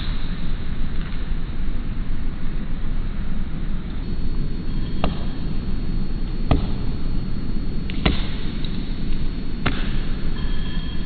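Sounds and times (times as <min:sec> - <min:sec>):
steady low rumble: 0:00.5 - 0:11.0.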